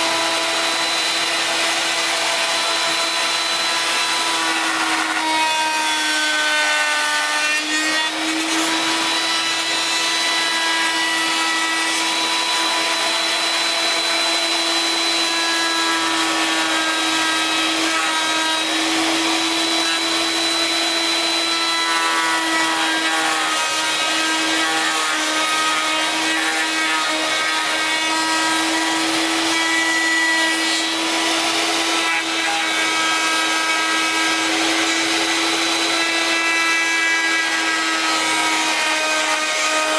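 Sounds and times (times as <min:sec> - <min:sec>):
router high-pitched whine: 0:00.0 - 0:39.9
wood being cut rasping: 0:00.0 - 0:39.9.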